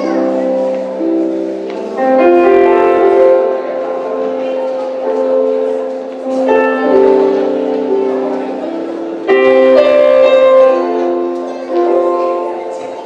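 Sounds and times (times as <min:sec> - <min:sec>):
slow keyboard chords: 0:00.0 - 0:13.0.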